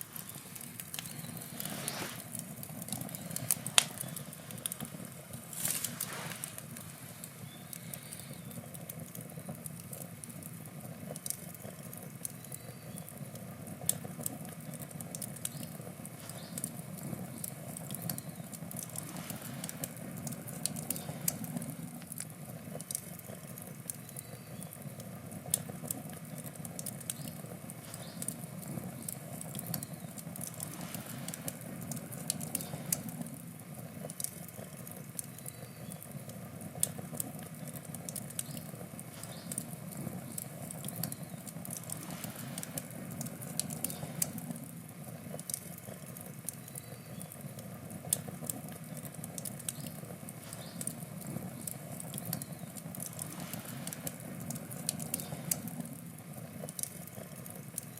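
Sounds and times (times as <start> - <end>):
crackles and pops of burning wood: 0.0 - 57.9
wood fire burning: 0.0 - 57.9.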